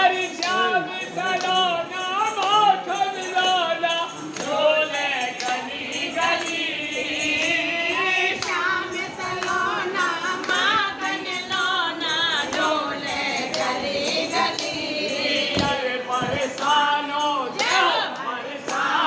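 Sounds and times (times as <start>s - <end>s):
group singing devotional song: 0.0s - 19.0s.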